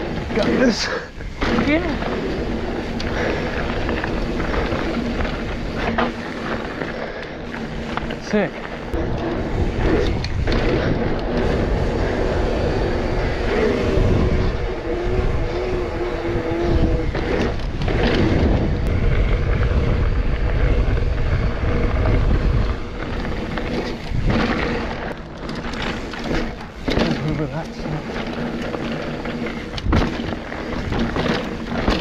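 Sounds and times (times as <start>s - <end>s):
bike tyres on tarmac: 0.0s - 32.0s
wavering hum: 0.0s - 32.0s
wind buffeting microphone: 0.0s - 32.0s.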